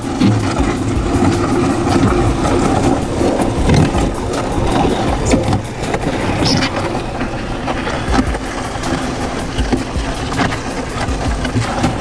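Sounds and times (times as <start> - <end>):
concrete mixer churning hum: 0.0 - 12.0
gritty knocks and clicks: 0.2 - 12.0.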